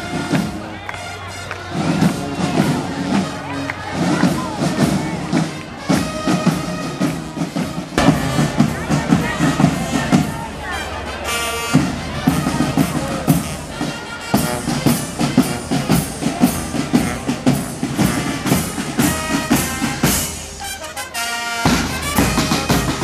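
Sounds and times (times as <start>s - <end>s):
brass held notes: 0.0s - 23.0s
marching band drums: 0.0s - 23.0s.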